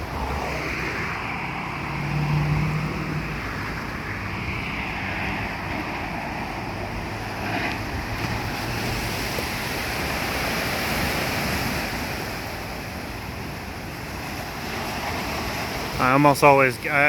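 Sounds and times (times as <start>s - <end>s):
wind rumbling on microphone: 0.0s - 16.1s
ocean waves washing ashore: 0.0s - 17.0s.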